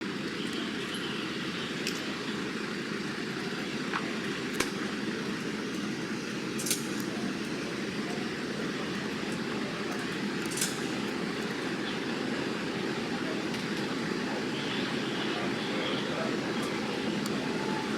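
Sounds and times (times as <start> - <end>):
low rumble of vehicle noise: 0.0 - 17.9.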